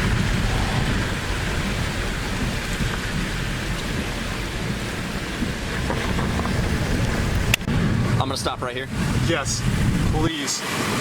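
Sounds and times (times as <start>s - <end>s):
heavy low rumble: 0.0s - 10.3s
storm wind and rain: 0.0s - 11.0s.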